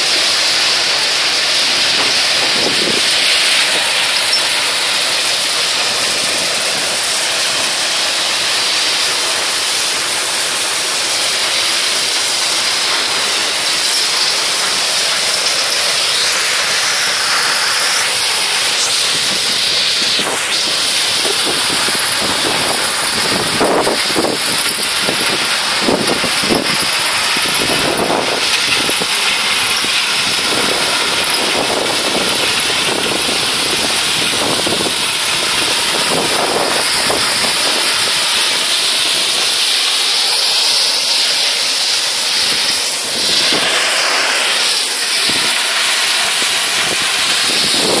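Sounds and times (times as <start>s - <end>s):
vibrating screens: 0.0s - 9.7s, 10.4s - 48.0s
diesel engines running: 0.0s - 48.0s.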